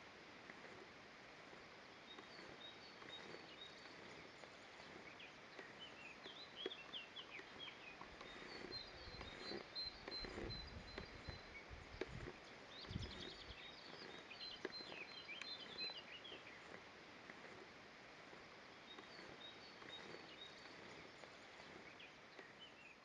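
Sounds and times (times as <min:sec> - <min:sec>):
low background noise: 0:00.0 - 0:23.0
birds chirping: 0:01.5 - 0:23.0.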